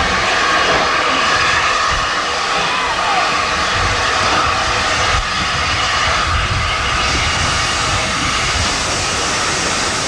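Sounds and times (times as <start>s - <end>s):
hiss of escaping steam: 0.0s - 10.0s
steam locomotive rumble: 0.0s - 10.0s.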